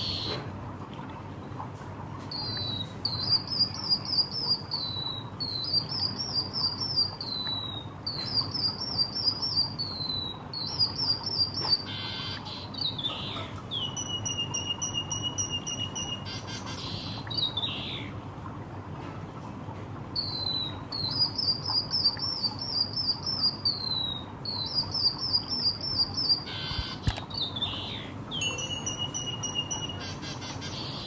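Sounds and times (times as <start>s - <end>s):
bird chirping and whistling: 0.0s - 0.4s, 2.3s - 18.1s, 20.2s - 31.0s.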